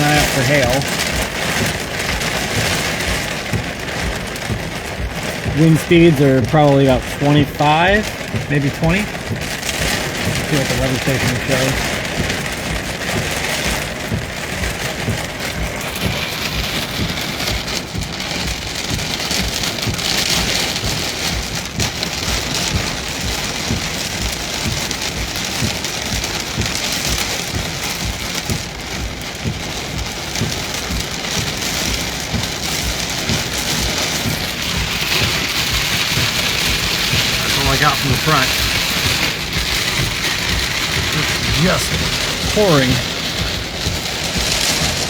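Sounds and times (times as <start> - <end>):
heavy rain pouring: 0.0 - 45.0
wind buffeting microphone: 0.0 - 45.0.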